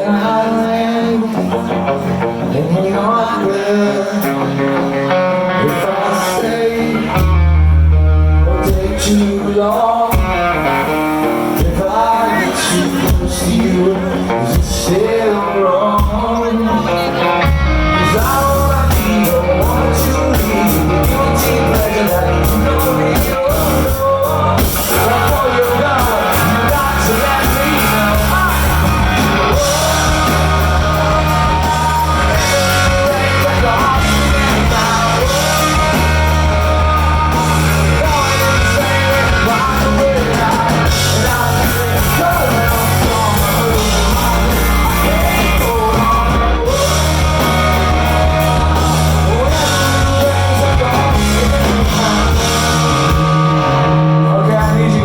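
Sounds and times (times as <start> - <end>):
lead vocal singing: 0.0 - 7.8, 8.4 - 55.0
bass guitar: 0.0 - 55.0
drums: 0.0 - 55.0
electric guitar: 0.0 - 55.0.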